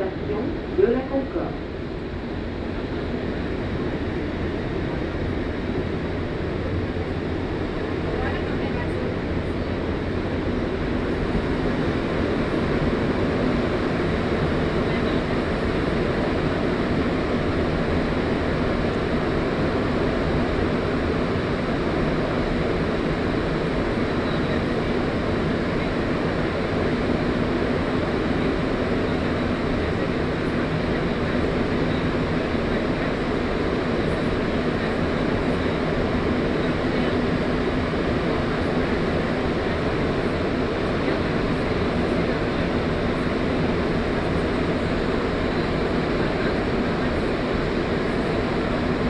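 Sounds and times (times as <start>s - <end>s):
train rumbling through tunnel: 0.0s - 49.0s.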